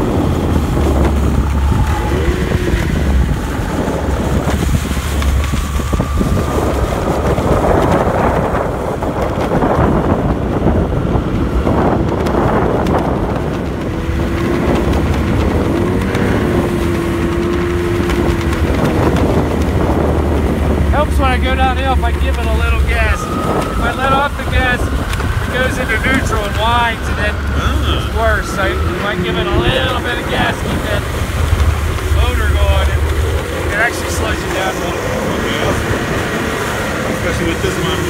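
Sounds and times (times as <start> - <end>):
snowmobile engine running: 0.0 - 38.0
wind buffeting microphone: 0.0 - 38.0.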